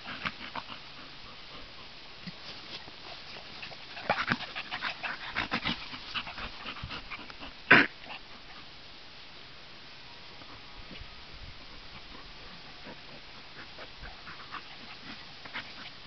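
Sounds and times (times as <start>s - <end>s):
dogs breathing and snorting: 0.0s - 8.7s, 10.4s - 16.0s.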